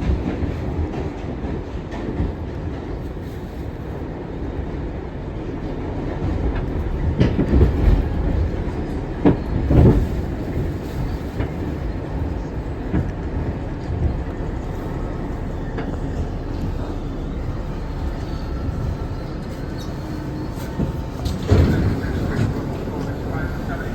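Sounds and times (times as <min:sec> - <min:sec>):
subway train rumbling: 0:00.0 - 0:23.9.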